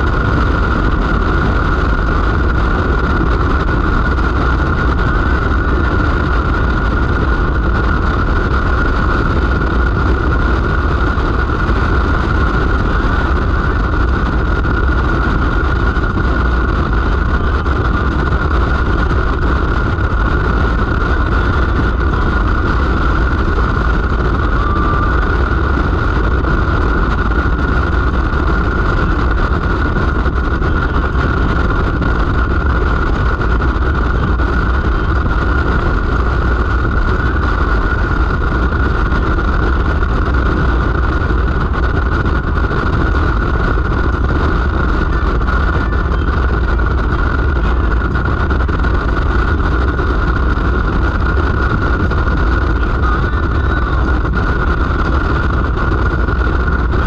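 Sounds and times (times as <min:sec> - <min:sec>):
engine and road drone: 0:00.0 - 0:57.0
thin steady whine: 0:00.0 - 0:57.0
wind rumble on microphone: 0:00.0 - 0:57.0.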